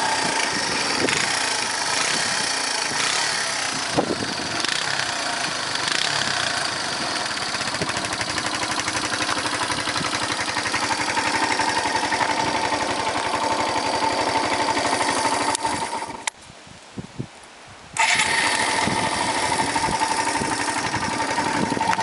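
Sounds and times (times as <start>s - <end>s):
motorcycle engine idling: 0.0s - 16.3s, 18.0s - 22.0s.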